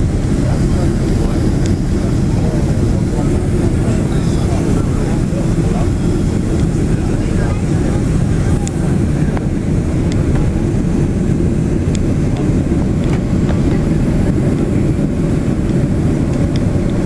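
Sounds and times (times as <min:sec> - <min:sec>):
jet engines and airflow rumble: 0:00.0 - 0:17.0.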